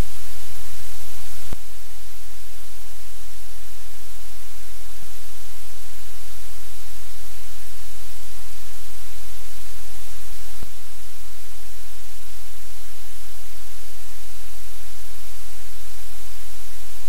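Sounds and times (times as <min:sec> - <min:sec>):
microphone hiss and static: 0:00.0 - 0:17.0.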